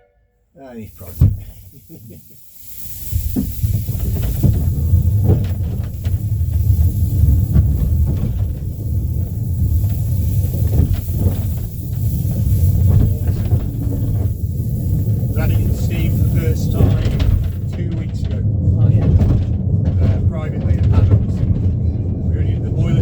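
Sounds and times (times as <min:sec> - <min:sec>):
low rumble: 0:00.6 - 0:23.0
steam locomotive hissing steam: 0:00.6 - 0:23.0.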